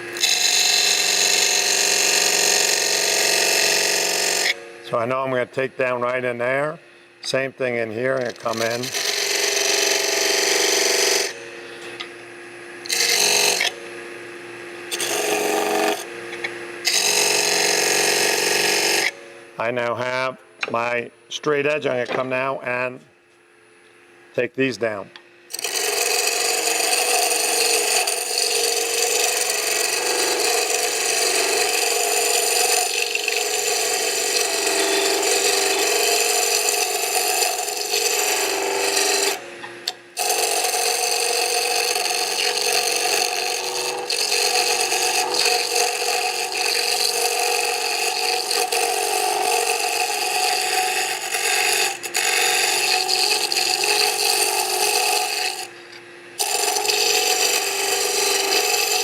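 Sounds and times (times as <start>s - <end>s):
wood lathe scraping hiss: 0.0s - 6.3s, 7.0s - 12.0s, 12.8s - 13.8s, 14.9s - 16.1s, 16.8s - 19.2s, 25.5s - 55.8s, 56.4s - 59.0s.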